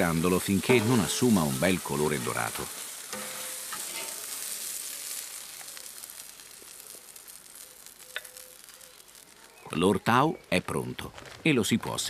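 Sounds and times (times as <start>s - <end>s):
sausage sizzling on a grill: 0.0s - 12.0s.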